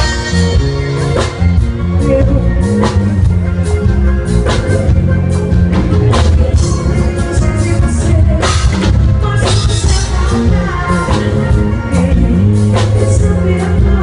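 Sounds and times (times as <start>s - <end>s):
bass line: 0.0s - 14.0s
electric guitar: 0.0s - 14.0s
keyboards: 0.0s - 14.0s
live band music: 0.0s - 14.0s.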